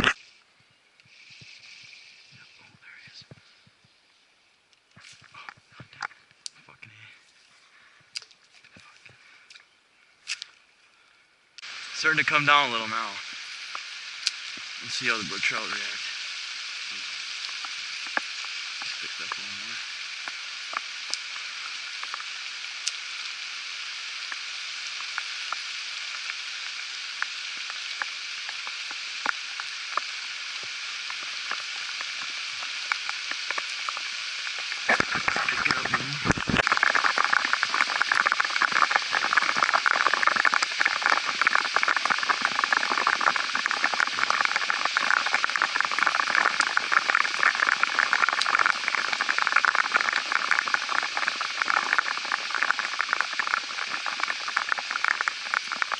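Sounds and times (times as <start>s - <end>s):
raindrops pattering on camera: 0.0s - 0.3s, 1.0s - 3.9s, 11.6s - 55.9s
rain on creek and leaves: 0.0s - 55.9s.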